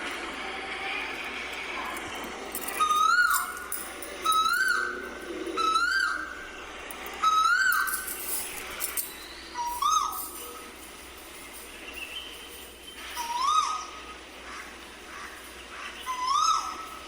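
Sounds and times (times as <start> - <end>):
cuckoo calling: 0.4 - 17.0.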